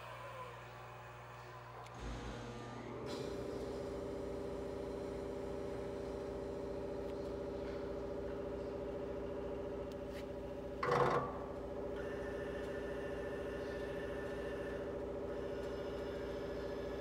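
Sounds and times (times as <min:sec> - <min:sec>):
high steady machine whine: 0:00.0 - 0:17.0.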